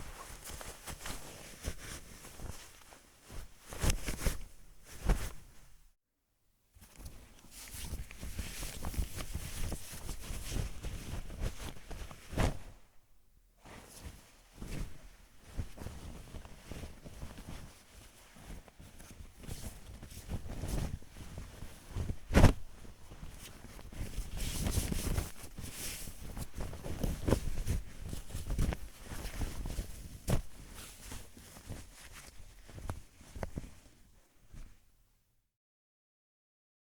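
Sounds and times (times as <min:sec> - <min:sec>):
cloth flapping: 0:00.0 - 0:05.8, 0:07.0 - 0:12.9, 0:13.6 - 0:34.8
fabric rustling and swishing: 0:00.0 - 0:05.9, 0:06.8 - 0:13.0, 0:13.6 - 0:34.9.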